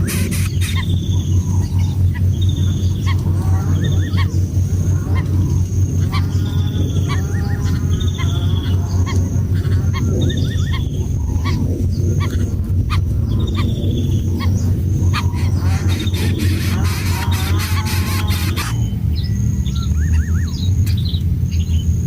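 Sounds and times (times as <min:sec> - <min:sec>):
birds calling: 0:00.0 - 0:22.0
steady low hum: 0:00.0 - 0:22.0.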